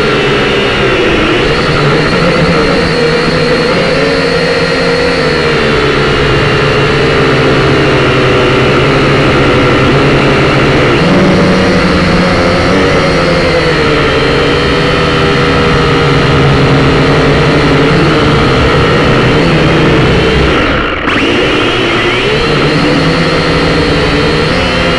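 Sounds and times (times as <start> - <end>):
drone motors whining: 0.0 - 24.9.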